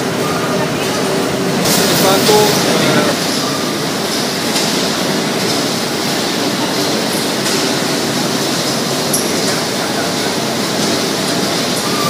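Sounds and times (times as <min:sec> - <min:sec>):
laundry machinery running: 0:00.0 - 0:12.0.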